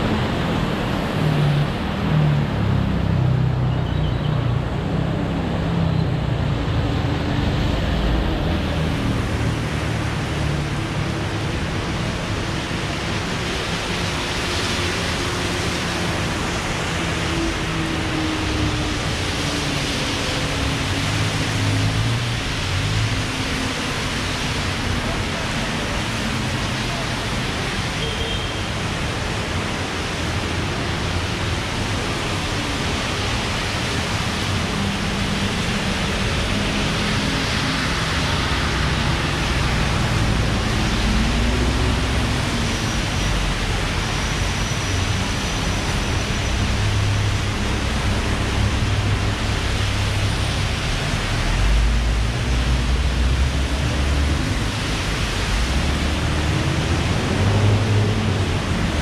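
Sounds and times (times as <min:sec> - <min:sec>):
heavy rain falling: 0:04.7 - 0:59.0.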